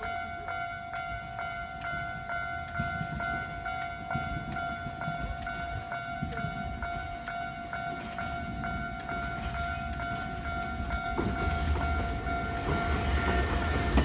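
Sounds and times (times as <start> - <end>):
level-crossing warning bell: 0.0 - 14.0
passing train rumble: 0.0 - 14.0.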